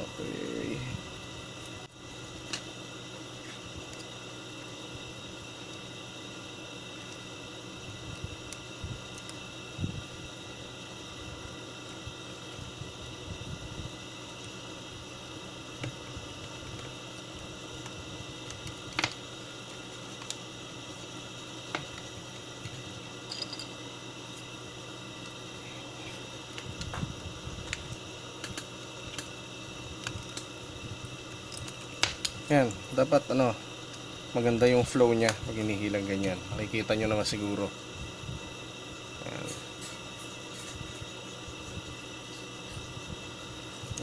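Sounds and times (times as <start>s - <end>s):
fan-like room hum: 0.0s - 44.0s.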